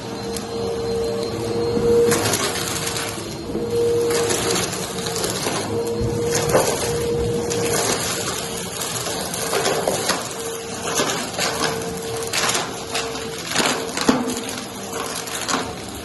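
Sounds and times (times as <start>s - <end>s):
vacuum cleaner running on carpet: 0.0s - 16.0s
grit crackling in vacuum: 1.5s - 16.0s.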